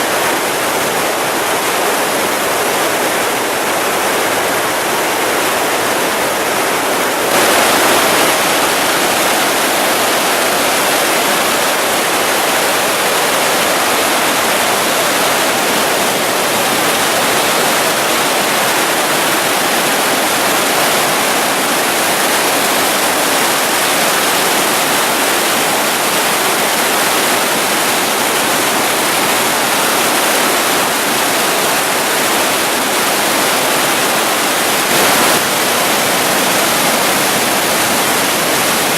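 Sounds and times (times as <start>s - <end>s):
flood water rushing: 0.0s - 38.9s.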